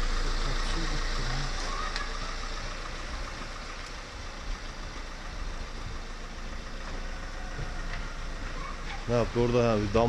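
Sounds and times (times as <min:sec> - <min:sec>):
motor rumbling: 0:00.0 - 0:10.0.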